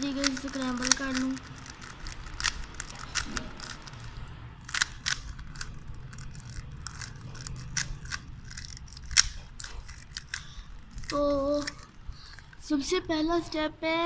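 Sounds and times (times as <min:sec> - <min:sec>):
puzzle cube twisting clicks: 0:00.0 - 0:12.6.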